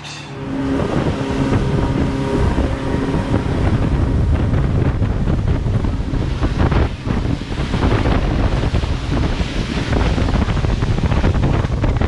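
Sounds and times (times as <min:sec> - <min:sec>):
churning wake water: 0:00.0 - 0:12.0
power boat engine drone: 0:00.0 - 0:12.0
wind buffeting microphone: 0:00.0 - 0:12.0.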